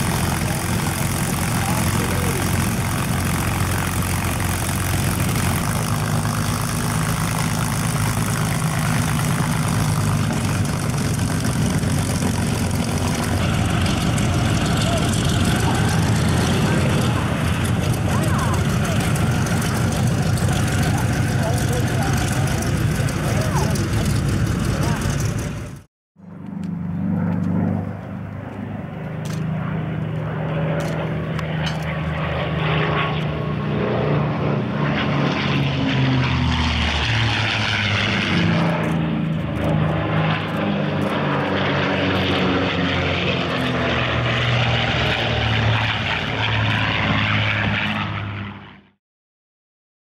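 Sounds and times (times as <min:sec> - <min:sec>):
propeller planes droning past: 0:00.0 - 0:49.0.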